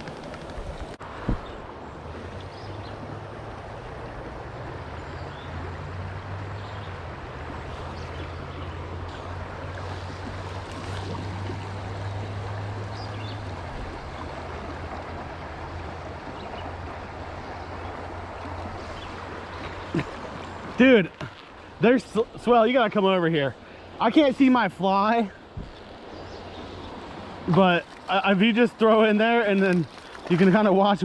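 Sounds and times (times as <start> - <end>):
stream water flowing: 0.0 - 31.0.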